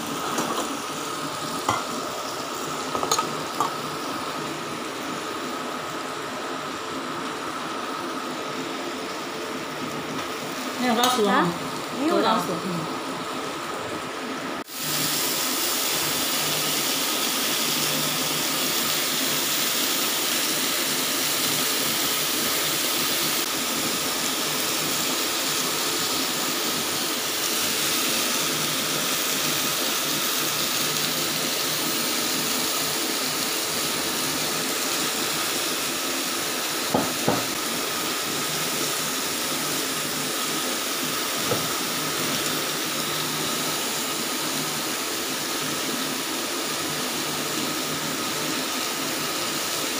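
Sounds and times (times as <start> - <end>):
food sizzling on grill plate: 0.0 - 13.8, 14.6 - 49.9.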